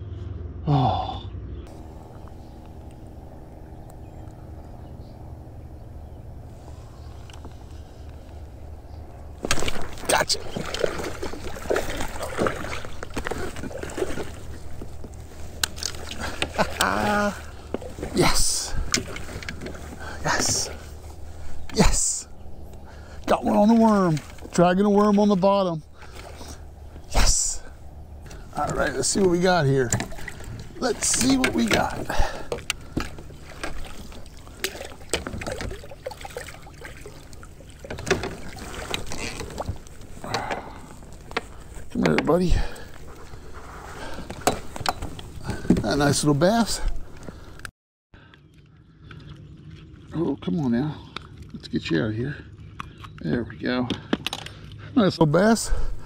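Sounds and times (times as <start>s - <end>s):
water splashing around kayak: 1.7s - 47.7s.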